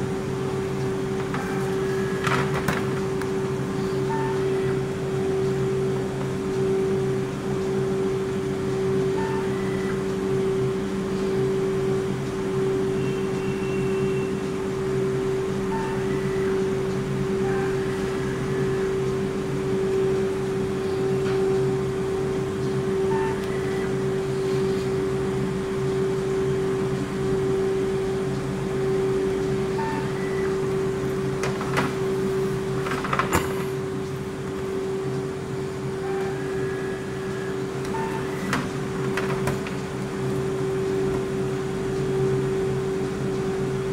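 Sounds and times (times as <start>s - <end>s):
ice cream machine humming: 0.0s - 43.9s.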